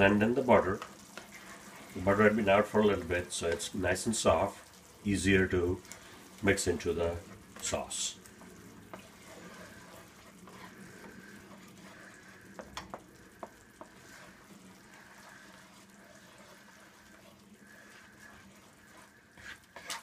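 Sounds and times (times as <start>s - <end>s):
sauce simmering and sizzling: 0.0s - 20.0s.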